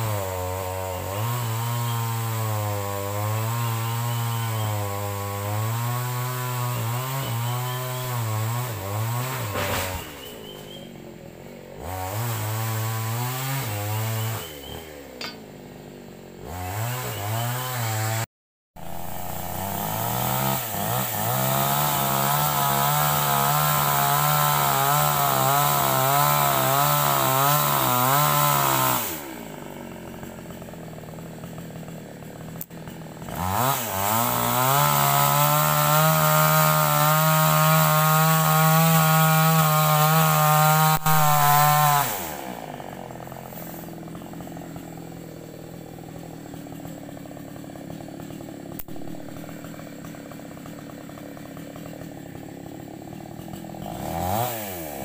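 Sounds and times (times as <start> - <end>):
chainsaw engine revving: 0.0 - 55.0.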